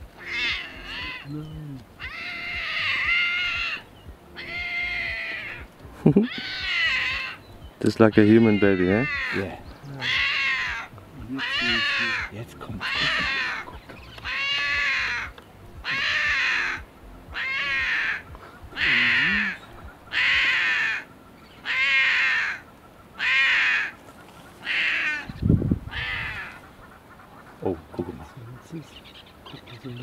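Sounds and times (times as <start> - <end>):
lion cub crying: 0.1 - 24.0, 24.6 - 30.0.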